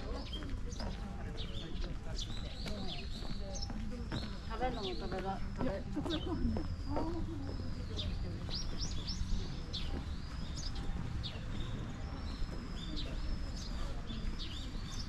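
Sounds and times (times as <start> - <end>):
small birds whistling and chirping: 0.0 - 15.0.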